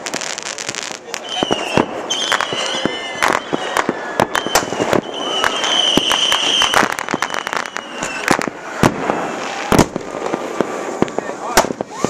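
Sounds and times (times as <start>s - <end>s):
firework whistle: 0.0s - 12.0s
fireworks bangs and crackles: 0.0s - 12.0s.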